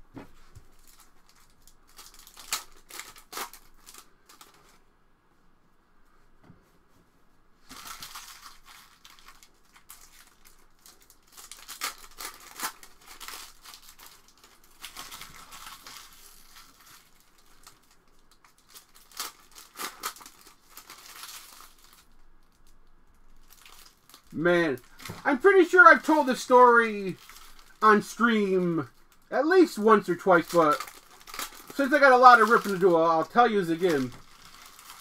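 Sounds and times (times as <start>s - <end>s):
foil wrappers crinkling and tearing: 0.6s - 4.8s, 7.6s - 35.0s.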